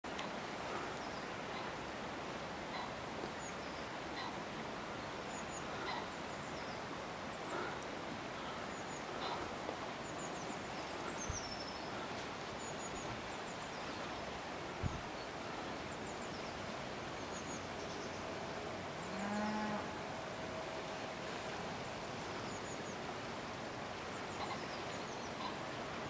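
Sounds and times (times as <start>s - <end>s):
river water rushing: 0.1s - 26.0s.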